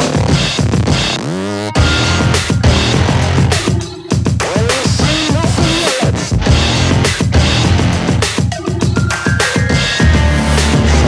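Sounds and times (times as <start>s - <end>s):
electronic music with driving beat: 0.0s - 11.0s.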